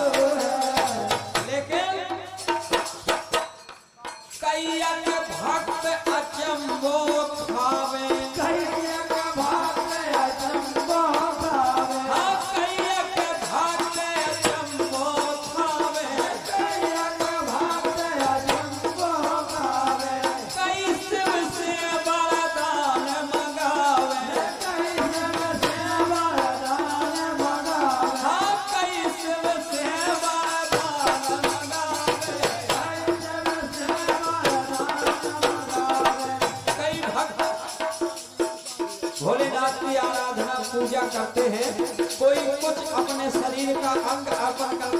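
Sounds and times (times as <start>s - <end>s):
shaken rattling percussion: 0.0s - 44.9s.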